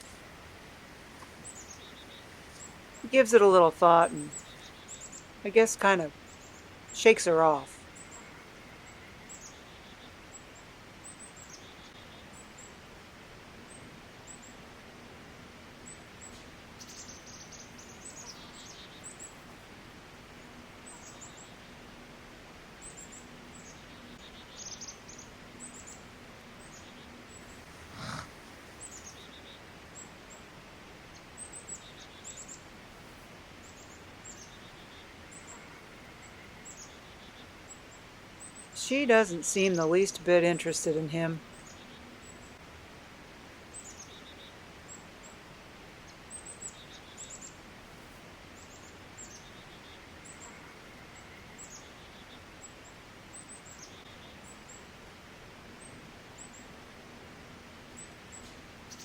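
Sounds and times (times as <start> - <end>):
small birds chirping: 0.0 - 12.8, 15.8 - 21.9, 22.8 - 42.9, 43.5 - 56.8, 57.4 - 59.0.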